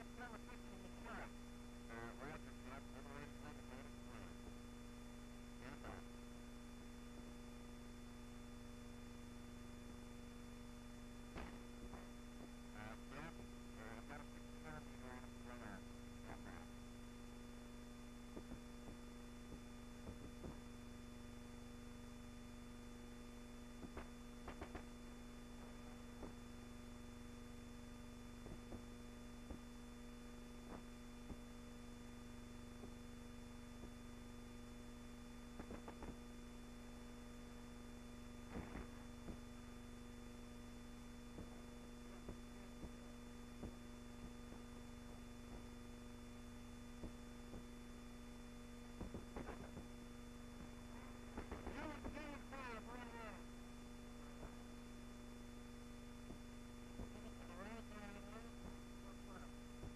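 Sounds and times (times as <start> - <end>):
low electrical hum: 0.0 - 59.9
faint clicks and crackles: 10.5 - 22.2, 22.9 - 59.9.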